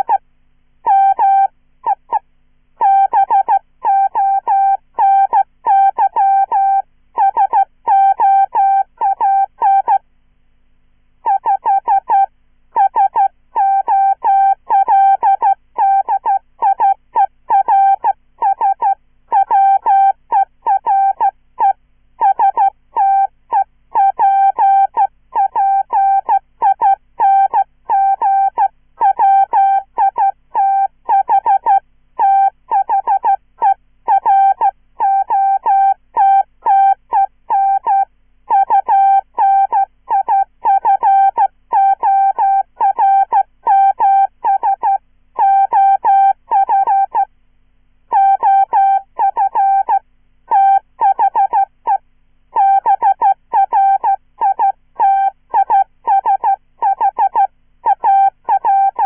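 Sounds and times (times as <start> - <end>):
morse code beeps: 0.9 - 1.5, 2.8 - 10.0, 11.2 - 47.3, 48.1 - 52.0, 52.6 - 59.0.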